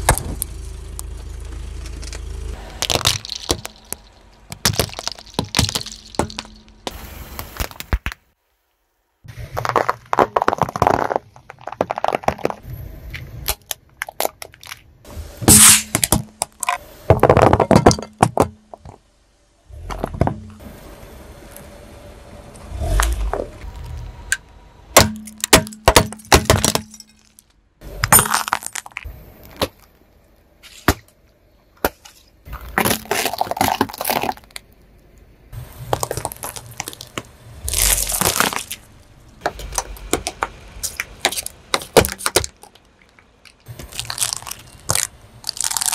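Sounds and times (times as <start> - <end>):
car tyre crushing objects: 0.0 - 8.4, 9.2 - 21.7, 22.4 - 45.9.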